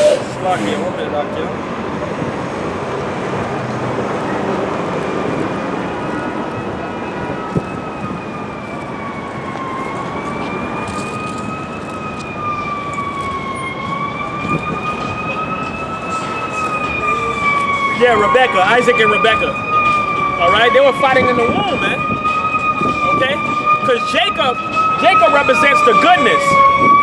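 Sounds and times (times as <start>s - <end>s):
emergency siren wailing: 0.0s - 27.0s
street traffic hum: 0.0s - 27.0s.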